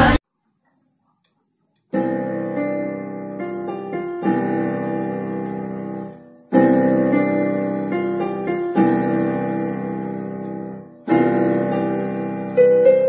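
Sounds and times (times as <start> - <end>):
electronic keyboard chords and melody: 2.0 - 13.0.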